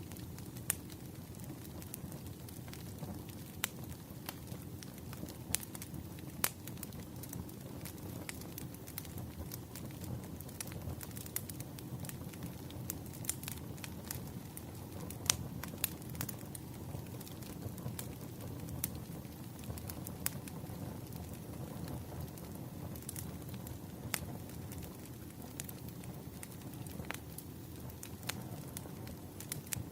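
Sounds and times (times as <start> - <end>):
burning logs crackling and popping: 0.0 - 29.9
flames rumbling: 0.0 - 29.9.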